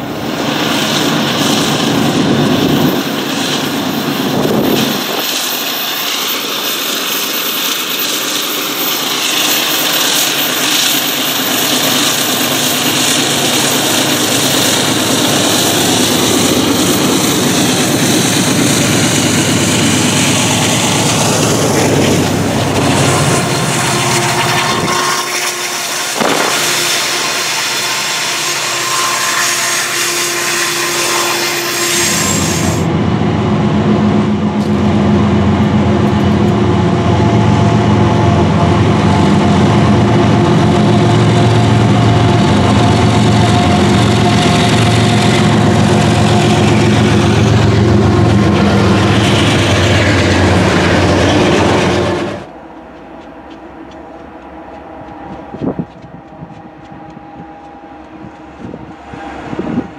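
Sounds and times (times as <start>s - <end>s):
diesel locomotive engines running: 0.0s - 59.9s
train cars rolling by: 0.0s - 59.9s.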